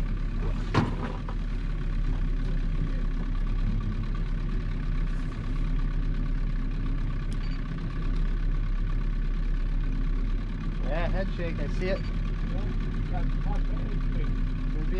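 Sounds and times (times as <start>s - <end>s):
outboard motor humming: 0.0s - 14.9s.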